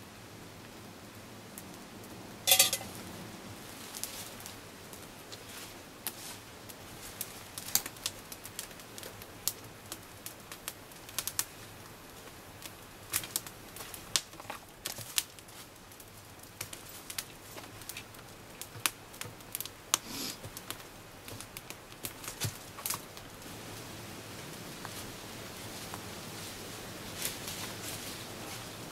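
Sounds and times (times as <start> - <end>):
campfire crackling and snapping: 0.1 - 28.9.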